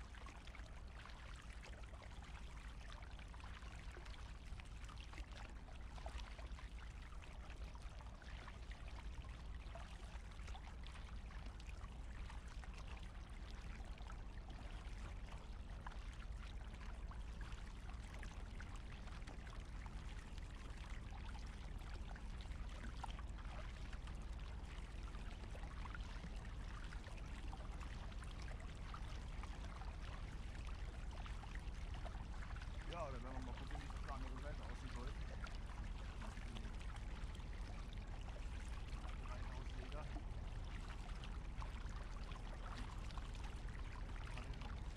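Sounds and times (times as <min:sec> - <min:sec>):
low steady rumble: 0:00.0 - 0:44.9.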